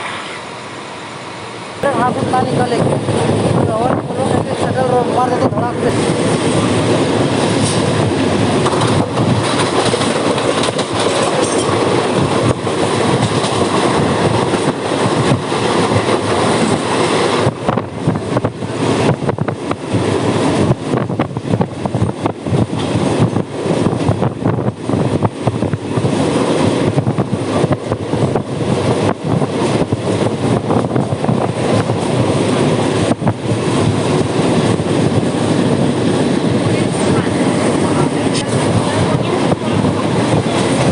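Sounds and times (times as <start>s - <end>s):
train wheels rumbling on tracks: 0.0s - 40.9s.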